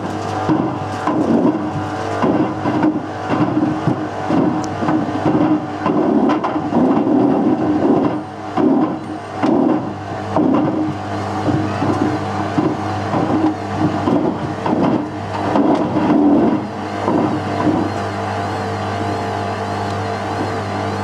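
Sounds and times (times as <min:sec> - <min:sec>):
washing machine motor humming: 0:00.0 - 0:21.0.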